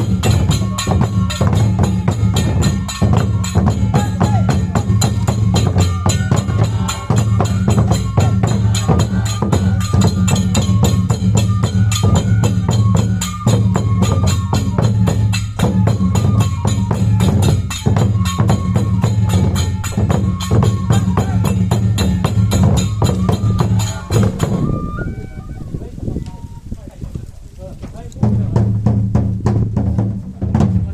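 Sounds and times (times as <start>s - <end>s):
drums low beat: 0.0s - 30.9s
fast clicking percussion: 0.0s - 30.9s.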